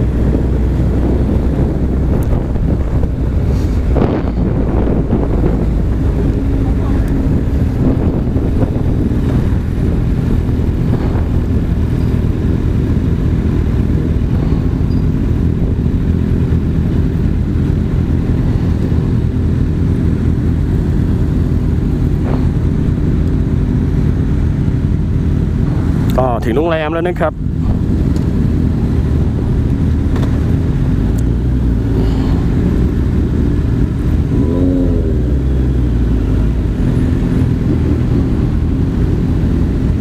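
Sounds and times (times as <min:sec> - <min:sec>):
motorcycle engine rumble: 0:00.0 - 0:40.0.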